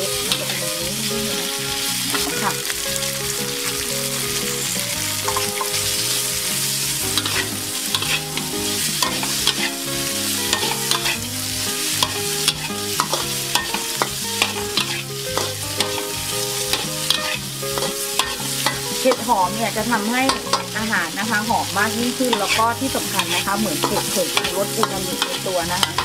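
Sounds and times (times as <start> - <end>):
food sizzling in oil: 0.0 - 26.0
metal spatula scraping pan: 0.0 - 26.0.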